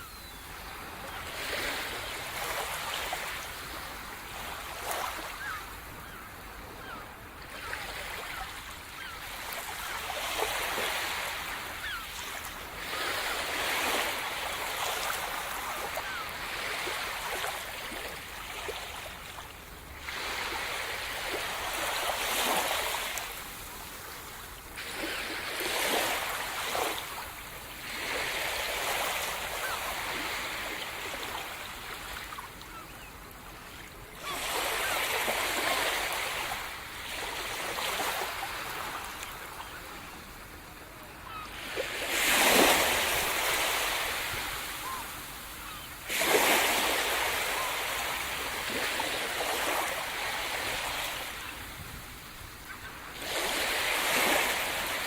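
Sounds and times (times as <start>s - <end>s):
waves breaking on shore: 0.0s - 55.0s.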